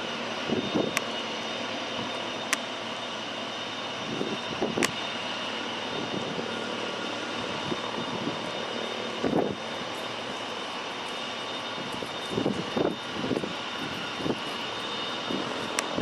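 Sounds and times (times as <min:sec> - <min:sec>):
high whine: 0:00.0 - 0:16.0
propeller aircraft engine drone: 0:00.0 - 0:16.0.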